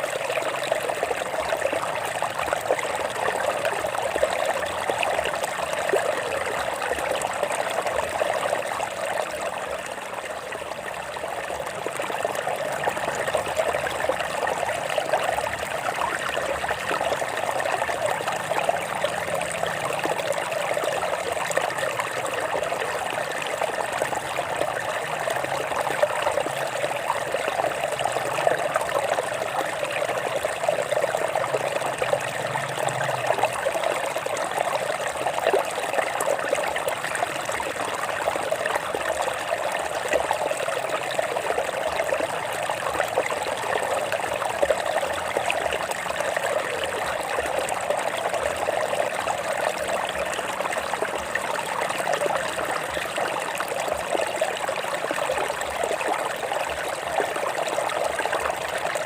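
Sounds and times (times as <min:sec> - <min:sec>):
stream splashing over rocks: 0:00.0 - 0:59.0.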